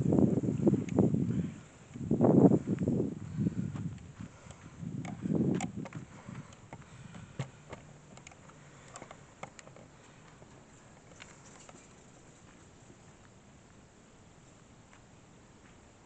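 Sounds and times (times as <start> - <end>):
faint outdoor background: 0.0 - 16.0
steps on gravel: 2.4 - 15.9.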